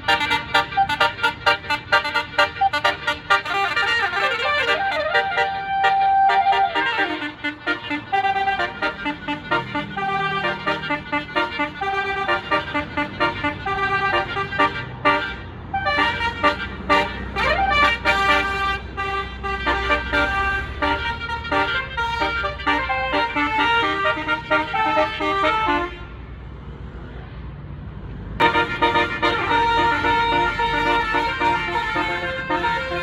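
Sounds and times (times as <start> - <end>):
musical bus horn playing a melody: 0.0 - 26.2, 28.4 - 33.0
bus engine running: 0.0 - 33.0.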